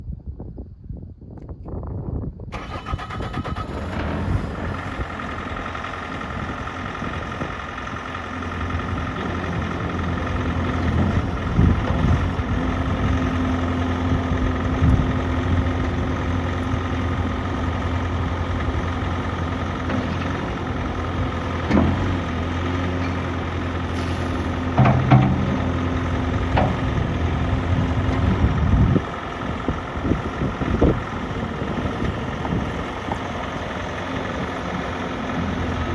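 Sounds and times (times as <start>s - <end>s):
diesel engine running: 2.5s - 35.9s.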